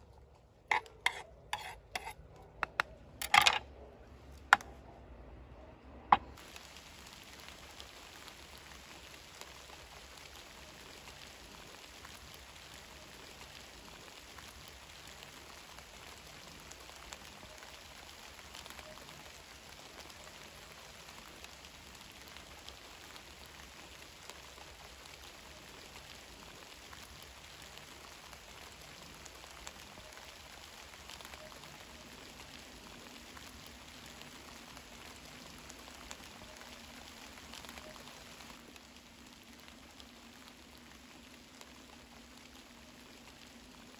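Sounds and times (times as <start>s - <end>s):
light rain on leaves: 0.0s - 3.0s, 4.0s - 43.9s.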